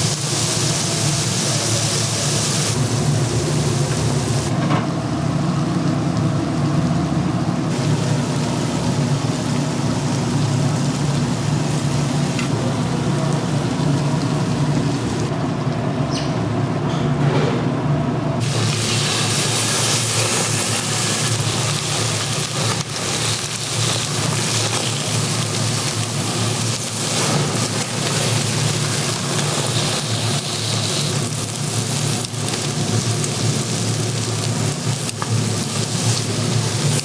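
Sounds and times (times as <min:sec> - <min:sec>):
meat sizzling on grill: 0:00.0 - 0:15.3, 0:18.4 - 0:37.0.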